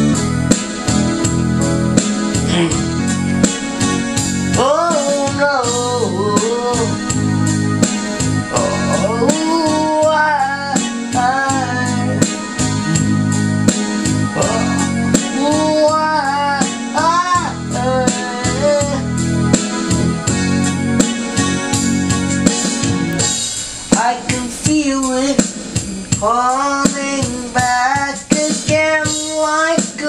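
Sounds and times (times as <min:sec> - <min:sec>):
bending lead melody: 0:00.0 - 0:28.0
electric piano chords: 0:00.0 - 0:28.0.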